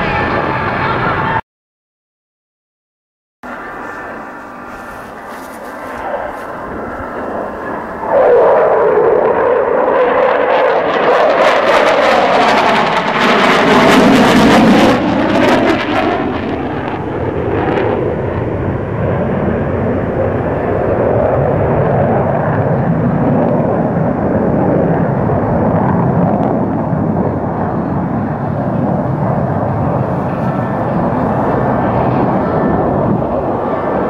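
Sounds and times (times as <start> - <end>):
jet fighters roaring overhead: 0.0 - 1.4, 3.5 - 34.0.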